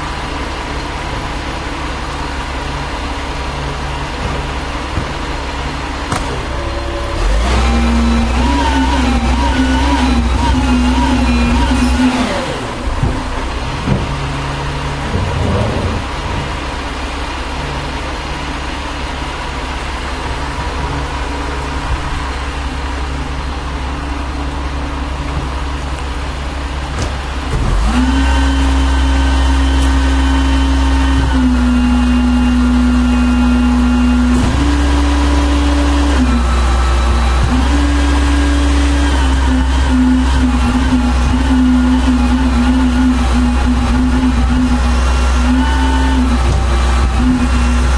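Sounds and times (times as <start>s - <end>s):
diesel truck engine revving: 0.0s - 47.9s.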